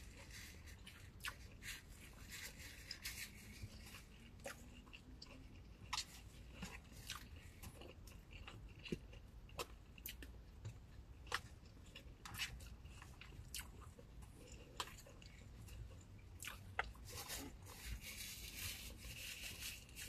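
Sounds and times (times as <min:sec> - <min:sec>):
person chewing and eating: 0:00.0 - 0:20.0.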